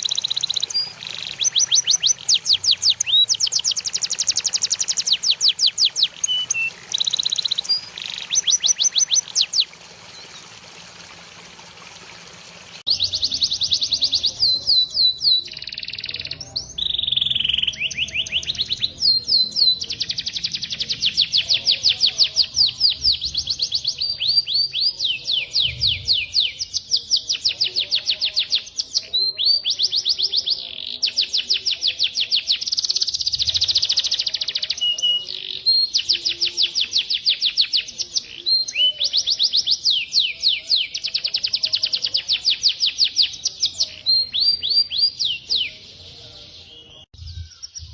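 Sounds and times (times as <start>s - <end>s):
songbird trilling: 0.0s - 10.4s, 12.9s - 47.9s.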